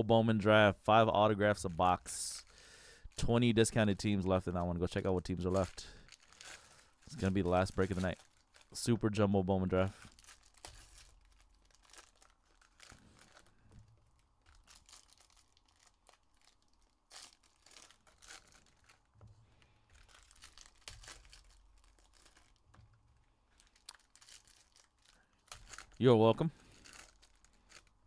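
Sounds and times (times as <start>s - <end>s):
foil wrappers crinkling: 1.6s - 28.0s.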